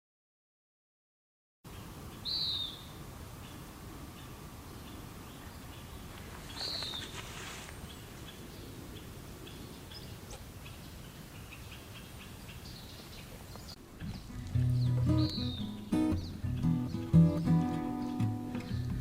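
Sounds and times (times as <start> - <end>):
bird calls and chirps: 1.7 - 19.0.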